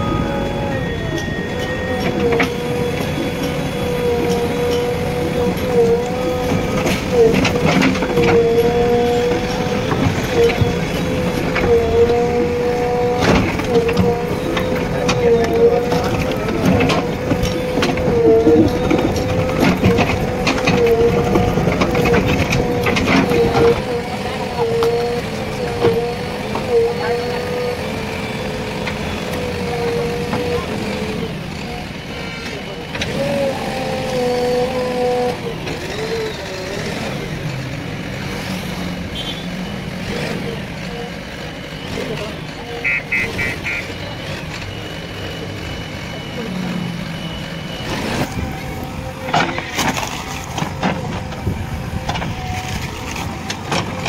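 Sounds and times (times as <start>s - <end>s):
backhoe engine and hydraulics whining: 0.0s - 54.0s.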